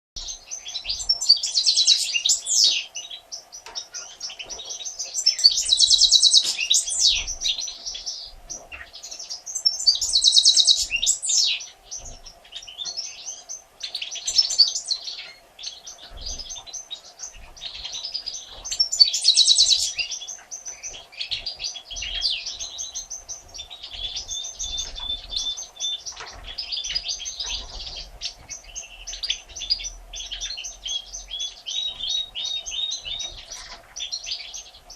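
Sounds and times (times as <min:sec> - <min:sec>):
goldfinches twittering and chirping: 0:00.2 - 0:34.9.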